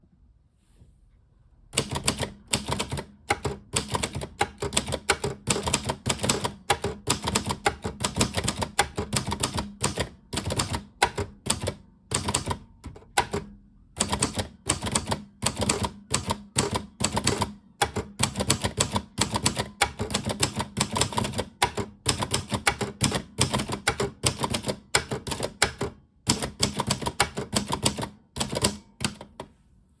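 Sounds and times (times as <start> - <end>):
typewriter key strikes: 1.8 - 29.4.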